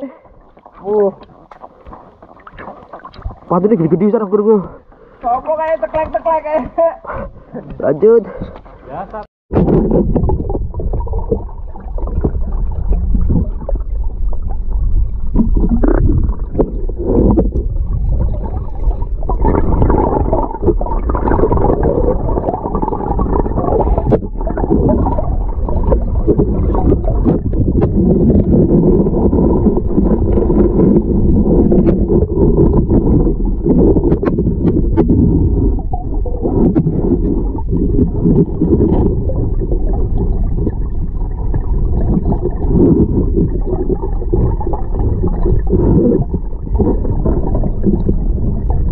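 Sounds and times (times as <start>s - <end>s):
underwater river rumbling and gurgling: 0.0s - 5.2s, 9.5s - 48.9s.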